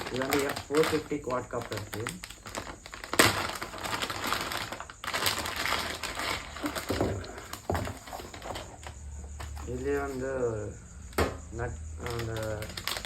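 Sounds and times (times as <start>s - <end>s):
packaging crackling: 0.0s - 10.2s, 12.0s - 13.0s
plastic parts clattering: 0.0s - 10.2s, 12.0s - 13.0s.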